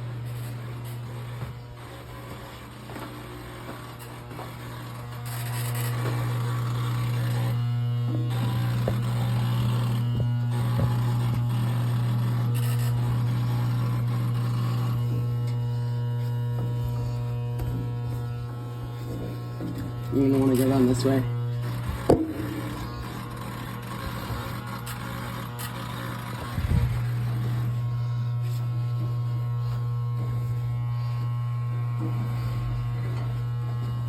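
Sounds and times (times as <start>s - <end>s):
low electrical buzz: 0.0s - 34.0s.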